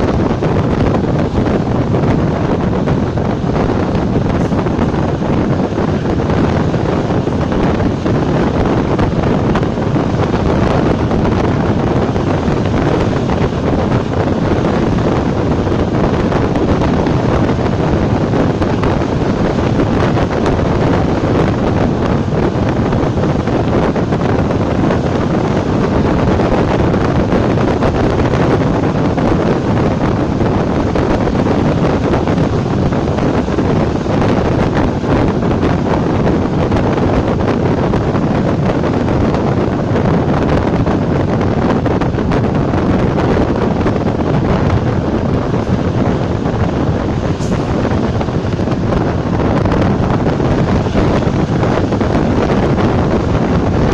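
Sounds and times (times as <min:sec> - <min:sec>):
electric train rumbling at speed: 0:00.0 - 0:53.9
wind buffeting microphone: 0:00.0 - 0:53.9.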